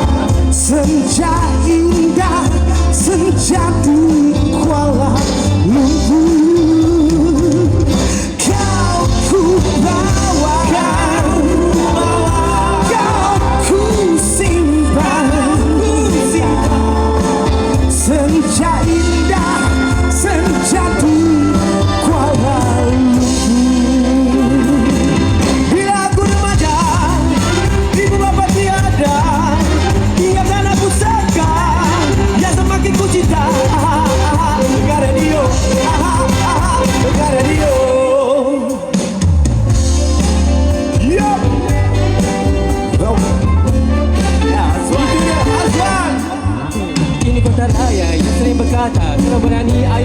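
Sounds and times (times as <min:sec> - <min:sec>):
person singing: 0:00.0 - 0:39.2, 0:40.0 - 0:50.0
pop-rock band playing: 0:00.0 - 0:50.0.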